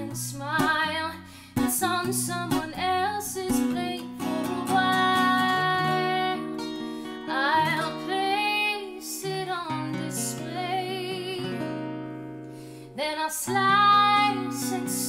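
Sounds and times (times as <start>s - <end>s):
woman singing with vibrato: 0.0s - 11.7s, 13.0s - 15.0s
strummed acoustic guitar: 0.0s - 15.0s.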